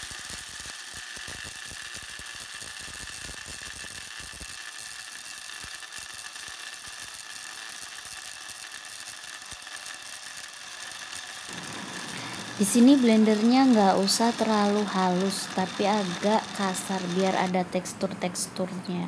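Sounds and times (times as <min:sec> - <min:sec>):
blender motor whine: 0:00.0 - 0:17.6.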